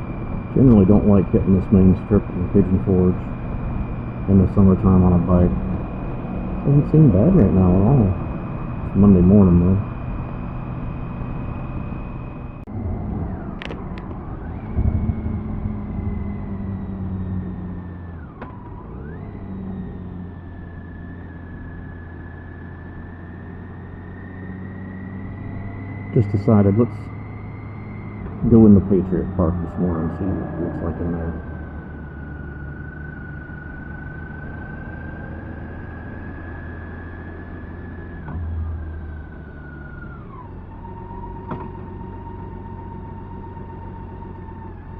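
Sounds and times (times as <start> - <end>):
motorcycle engine whine: 0.0 - 44.9.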